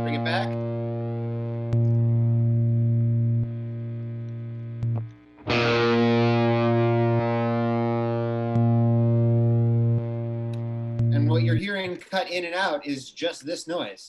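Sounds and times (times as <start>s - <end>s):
sustained guitar note: 0.0s - 11.6s.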